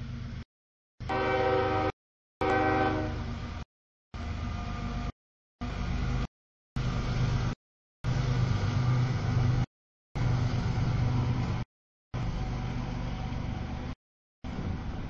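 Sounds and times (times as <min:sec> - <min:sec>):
freight train rumbling by: 0:01.0 - 0:03.6, 0:04.2 - 0:11.6, 0:12.2 - 0:15.0.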